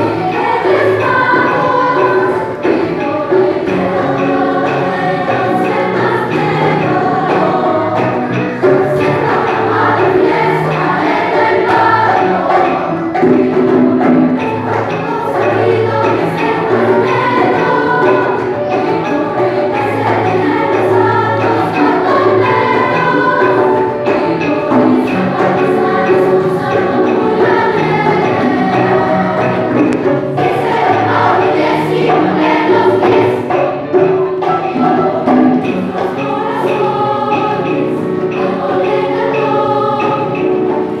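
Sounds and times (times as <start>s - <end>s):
children's choir singing: 0.0s - 41.0s.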